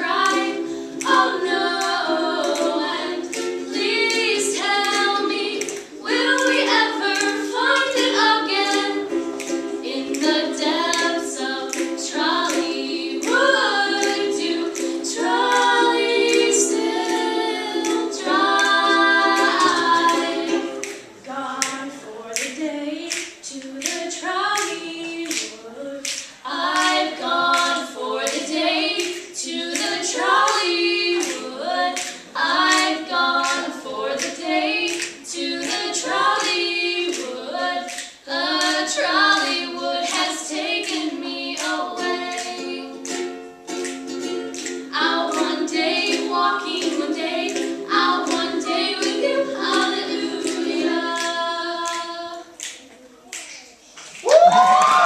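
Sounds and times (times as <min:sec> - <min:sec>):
strummed ukulele: 0:00.0 - 0:52.4
women singing in harmony: 0:00.0 - 0:52.6
hand claps: 0:00.0 - 0:55.0.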